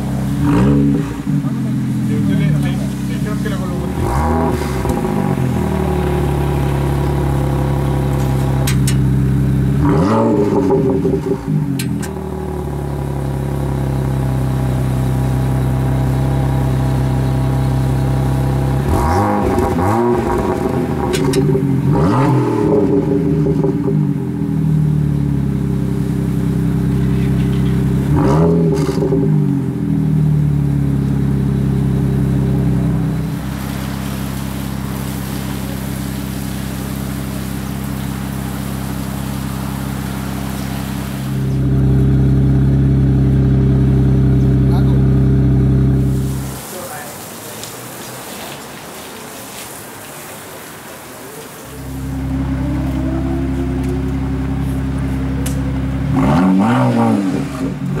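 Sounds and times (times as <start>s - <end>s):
car engine idling and revving: 0.0s - 47.1s, 51.3s - 58.0s.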